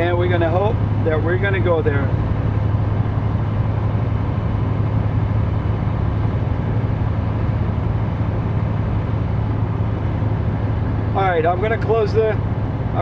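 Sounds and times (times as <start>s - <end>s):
diesel engine drone: 0.0s - 13.0s
road and tyre noise: 0.0s - 13.0s.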